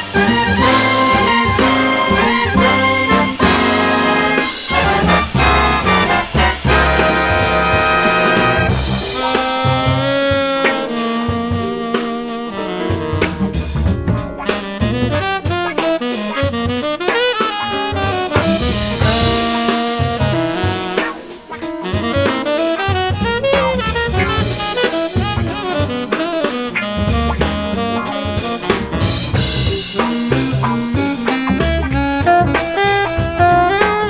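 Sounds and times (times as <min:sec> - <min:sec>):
brass playing held chords: 0:00.0 - 0:34.0
drum kit: 0:00.0 - 0:34.0
jazz orchestra music: 0:00.0 - 0:34.0.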